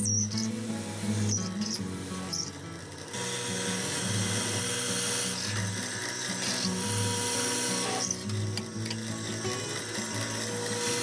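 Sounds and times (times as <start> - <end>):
drill press boring wood: 0.0 - 11.0.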